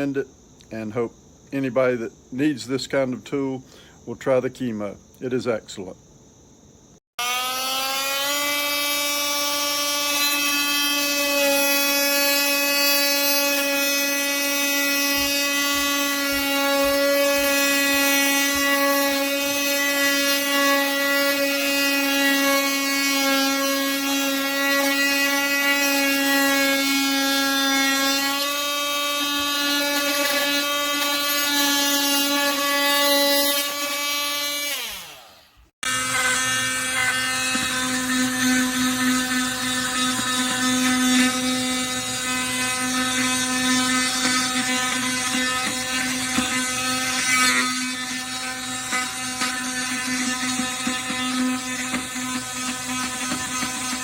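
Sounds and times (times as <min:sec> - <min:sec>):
oscillating multi-tool buzzing: 0:07.2 - 0:54.0.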